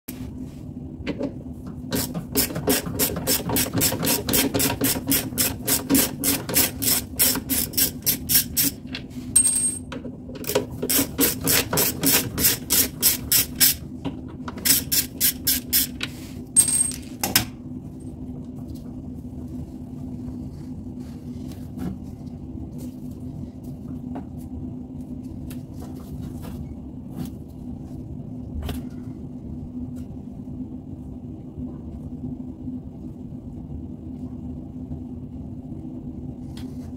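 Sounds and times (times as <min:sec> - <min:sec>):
washing machine hum: 0:00.0 - 0:36.9.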